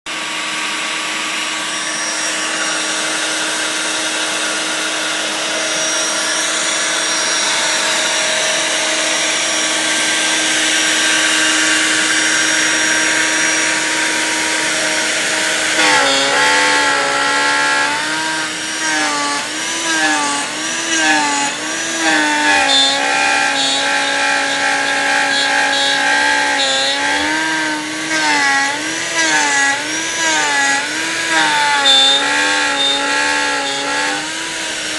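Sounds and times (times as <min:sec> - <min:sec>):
hiss of wood cutting: 0:00.1 - 0:34.9
router motor whine: 0:00.1 - 0:34.9.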